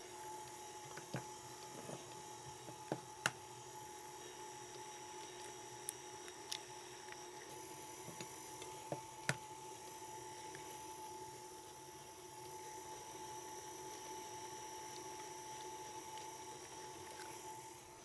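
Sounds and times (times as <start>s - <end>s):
stand mixer humming: 0.0s - 18.0s.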